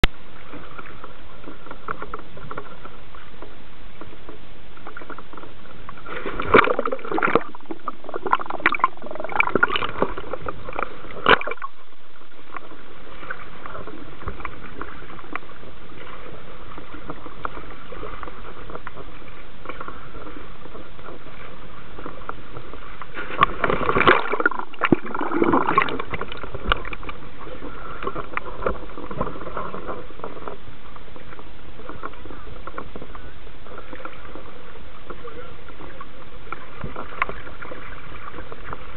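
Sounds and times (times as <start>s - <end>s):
sea water sloshing and splashing: 0.0s - 38.9s.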